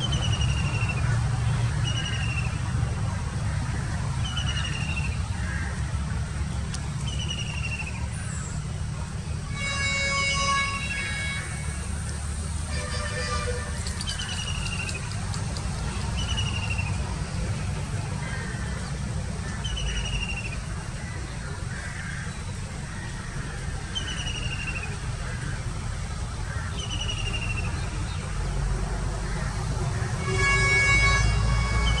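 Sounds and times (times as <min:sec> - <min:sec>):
diesel train rumbling: 0:00.0 - 0:32.0.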